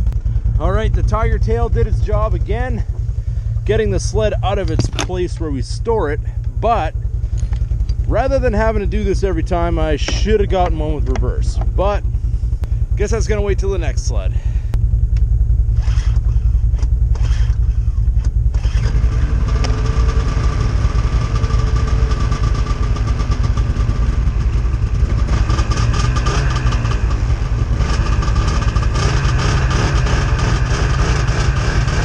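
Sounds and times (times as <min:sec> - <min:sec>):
vehicle engines idling: 0:00.0 - 0:32.0.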